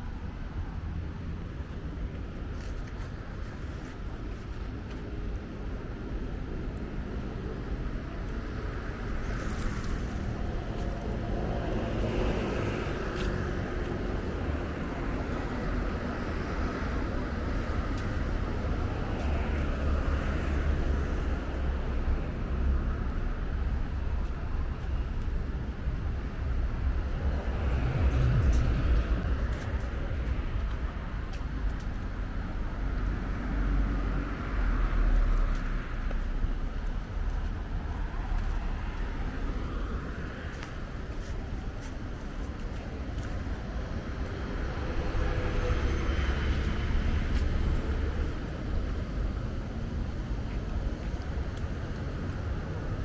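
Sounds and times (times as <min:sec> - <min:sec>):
cars passing: 0:00.0 - 0:53.0
road traffic rumble: 0:00.0 - 0:53.0.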